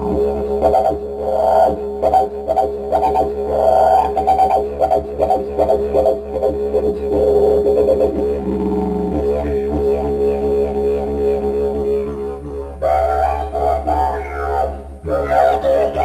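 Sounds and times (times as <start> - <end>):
didgeridoo low drone: 0.0 - 16.0.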